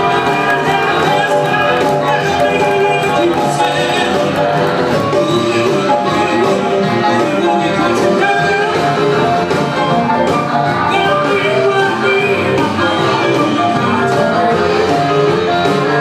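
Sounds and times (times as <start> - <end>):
keyboard: 0.0 - 16.0
live blues band: 0.0 - 16.0.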